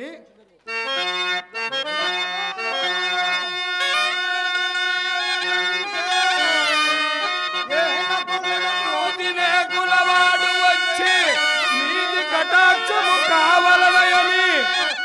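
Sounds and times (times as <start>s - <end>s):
harmonium held notes: 0.7s - 15.0s
person singing wavering melody: 1.9s - 15.0s.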